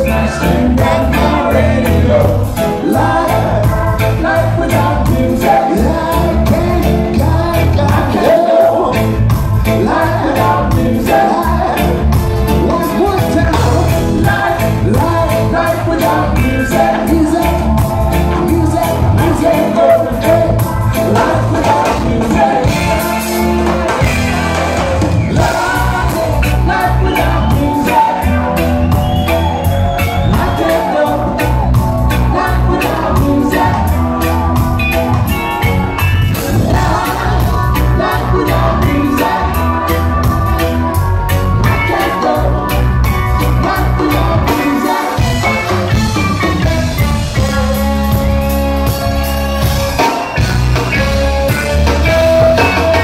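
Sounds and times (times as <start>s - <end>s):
heavy bass line: 0.0s - 53.0s
lead singer: 0.0s - 53.0s
reggae band playing: 0.0s - 53.0s.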